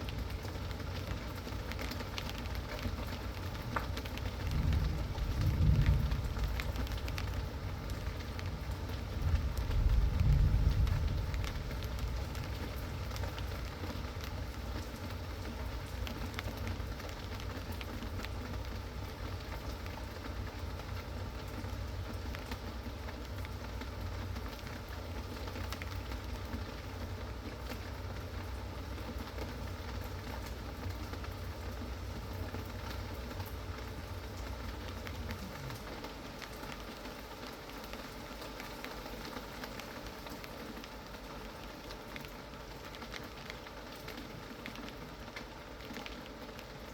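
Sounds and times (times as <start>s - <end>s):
raindrops ticking: 0.0s - 46.9s
steady rain falling: 0.0s - 46.9s.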